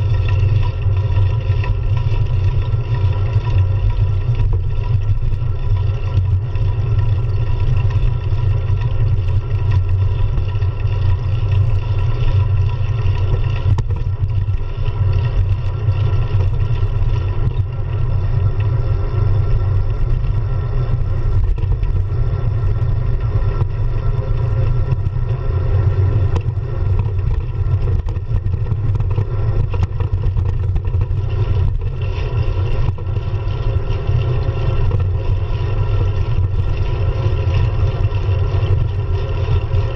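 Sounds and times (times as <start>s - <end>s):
bicycle tyre noise: 0.0s - 39.9s.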